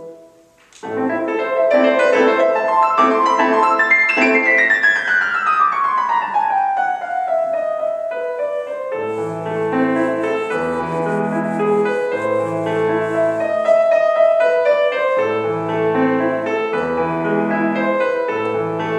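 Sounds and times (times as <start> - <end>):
solo piano classical piece: 0.0 - 18.9.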